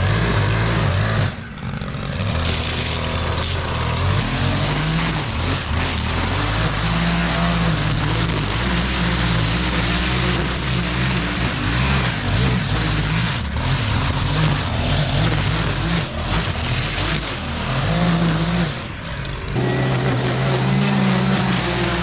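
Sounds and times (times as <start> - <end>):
string trimmer cutting grass: 0.0 - 22.0.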